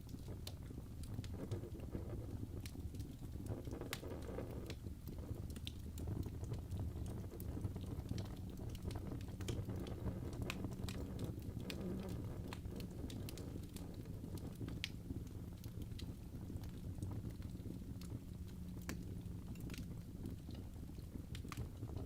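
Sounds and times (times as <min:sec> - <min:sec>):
fire crackling and popping: 0:00.0 - 0:22.0
low fire rumble: 0:00.0 - 0:22.0.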